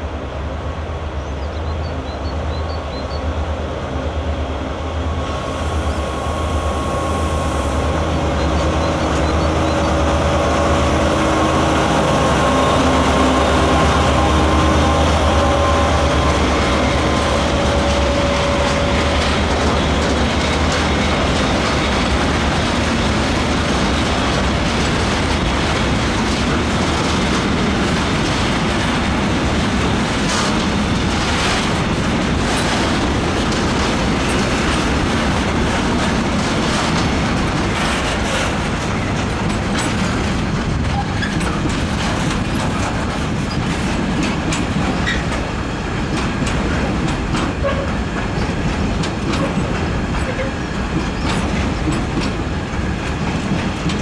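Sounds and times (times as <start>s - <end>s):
train wheel and rail noise: 0.0s - 54.0s
wheels clacking over rail joints: 8.0s - 54.0s.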